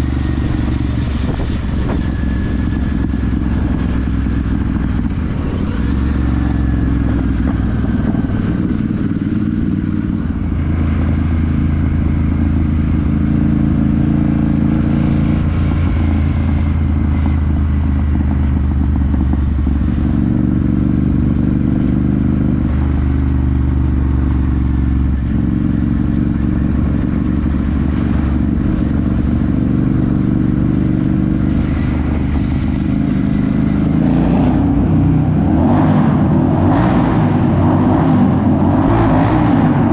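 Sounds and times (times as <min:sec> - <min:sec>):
motorcycle engine and exhaust revving: 0:00.0 - 0:39.9.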